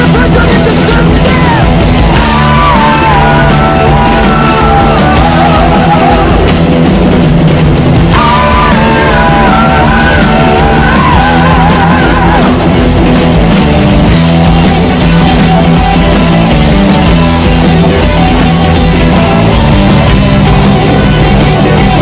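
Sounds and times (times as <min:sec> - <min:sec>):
loud rock music with singing: 0:00.0 - 0:22.0.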